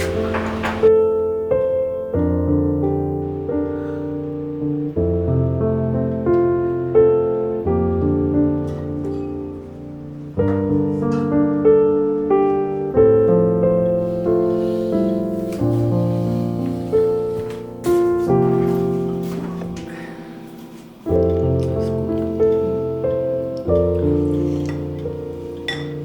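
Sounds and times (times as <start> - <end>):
soft piano music: 0.0 - 26.0.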